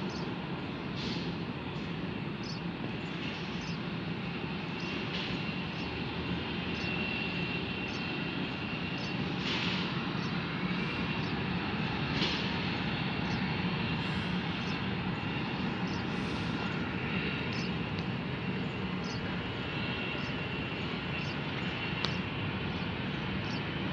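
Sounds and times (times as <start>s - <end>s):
jet engines running: 0.0s - 23.9s.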